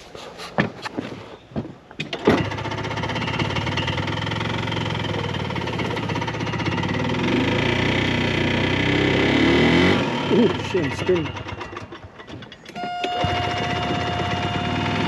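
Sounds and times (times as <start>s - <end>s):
small engine starting and running: 2.1s - 15.0s.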